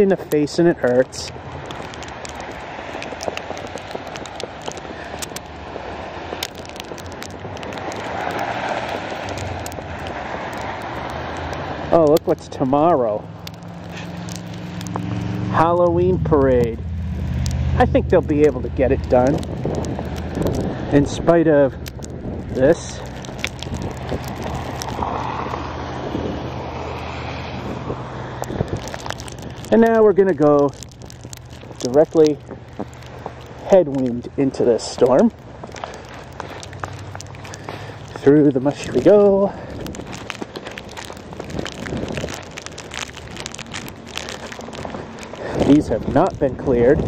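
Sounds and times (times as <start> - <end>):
muffled cars on slushy road: 0.0 - 47.0
tape crinkling on microphone: 0.0 - 47.0.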